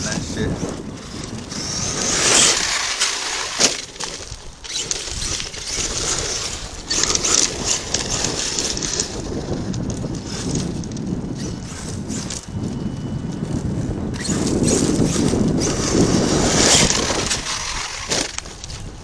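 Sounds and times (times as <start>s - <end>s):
dirt and rocks crunching: 0.0s - 19.0s.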